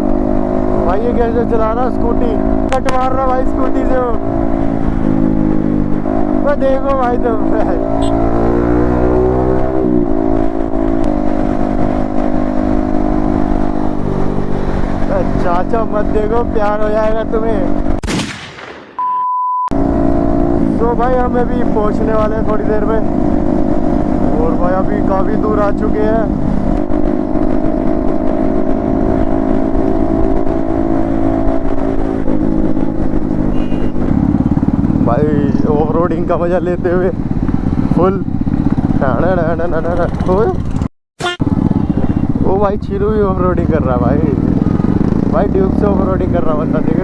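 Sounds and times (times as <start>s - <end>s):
motorcycle engine while riding: 0.0s - 18.0s, 19.7s - 47.0s
rushing wind and road noise: 0.0s - 18.7s, 19.7s - 47.0s.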